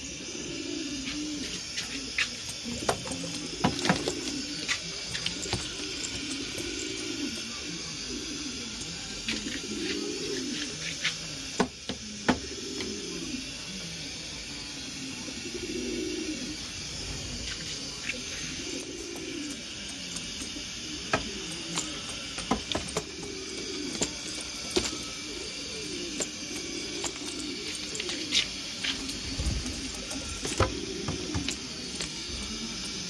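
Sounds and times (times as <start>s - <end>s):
pigeons cooing: 0.0s - 33.0s
steady hiss: 0.0s - 33.0s.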